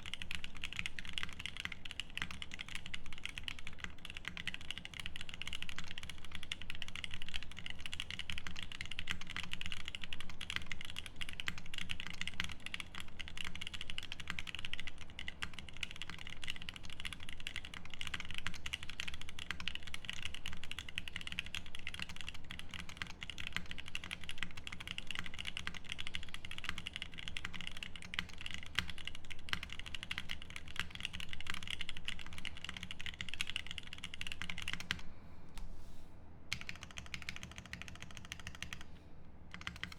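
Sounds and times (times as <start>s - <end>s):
fast typing on mechanical keyboard: 0.0s - 35.0s, 36.5s - 38.9s, 39.5s - 39.9s.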